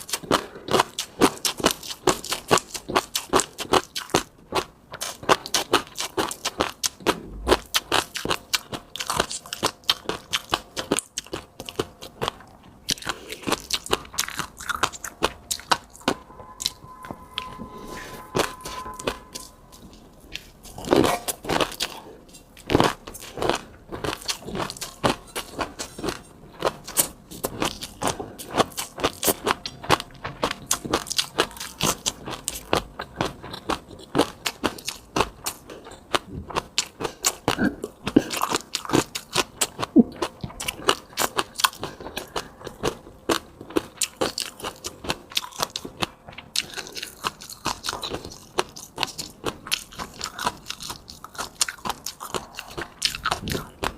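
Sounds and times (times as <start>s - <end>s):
chewing and crunching bites: 0.0s - 16.2s, 19.4s - 53.9s.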